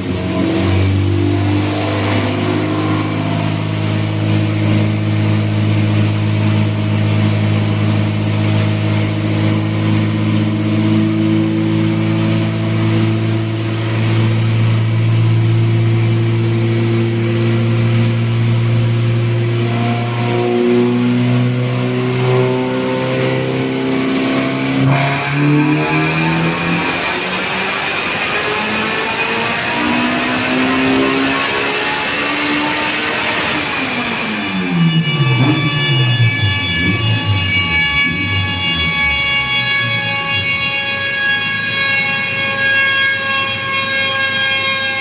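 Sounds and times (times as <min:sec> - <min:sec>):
car engine at steady revs: 0:00.0 - 0:44.8.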